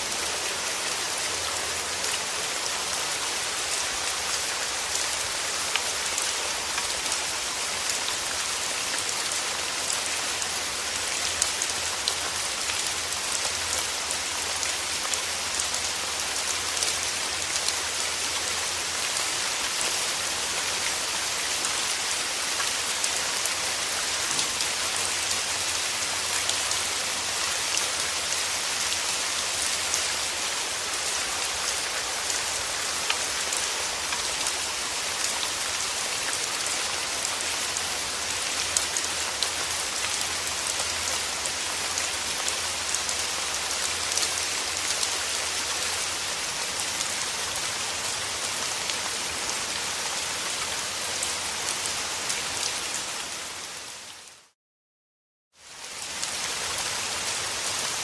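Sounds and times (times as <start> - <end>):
rain pattering on a surface: 0.0 - 53.4, 55.6 - 58.0.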